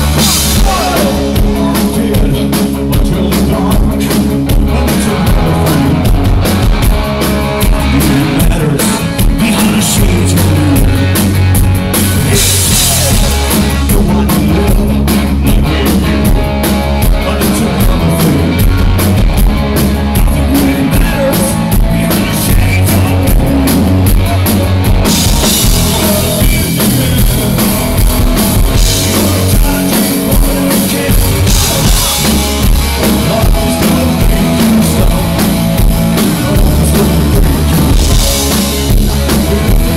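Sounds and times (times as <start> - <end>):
person singing: 0.0 - 6.4, 7.7 - 11.2, 12.1 - 16.4, 17.0 - 18.8, 20.1 - 28.0, 28.6 - 39.9
bass guitar: 0.0 - 39.9
drum kit with cymbals: 0.0 - 39.9
electric guitar: 0.0 - 39.9.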